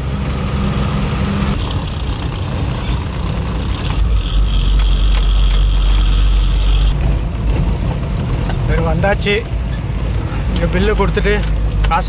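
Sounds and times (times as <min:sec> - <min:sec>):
diesel engine and road noise: 0:00.0 - 0:12.0
deep rumble: 0:01.3 - 0:11.8.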